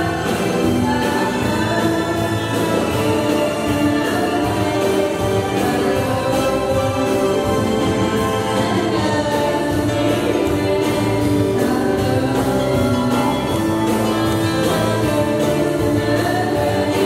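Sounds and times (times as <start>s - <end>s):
woman singing into microphone: 0.0s - 7.6s, 8.2s - 17.0s
musical accompaniment: 0.0s - 17.0s.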